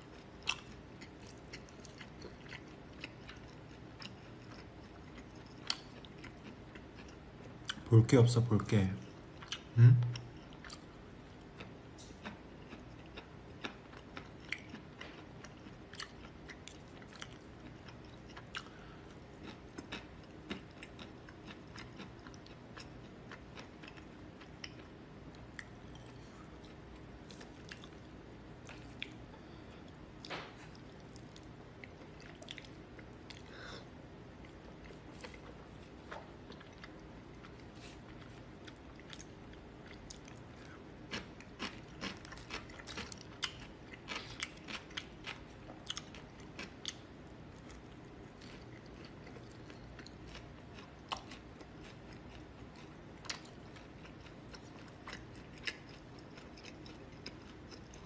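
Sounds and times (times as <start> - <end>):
person chewing noodles: 0.0 - 7.9, 9.3 - 58.0
faint steady hum: 0.0 - 58.0.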